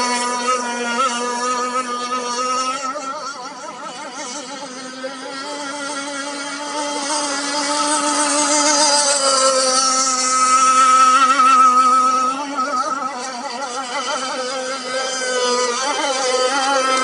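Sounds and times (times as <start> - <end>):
model boat motor whining: 0.0 - 17.0.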